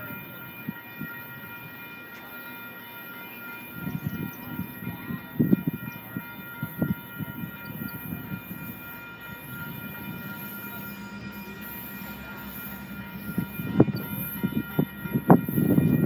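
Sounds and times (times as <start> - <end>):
freight train passing: 0.0 - 16.0
steady high tone: 0.0 - 16.0.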